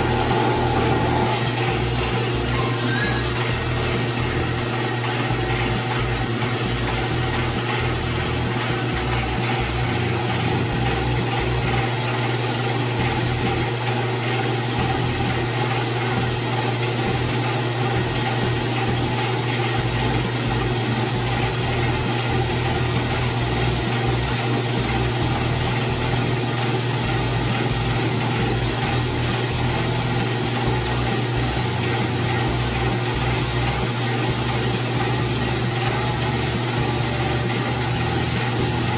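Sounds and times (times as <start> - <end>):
oil press motor hum: 0.0 - 38.9.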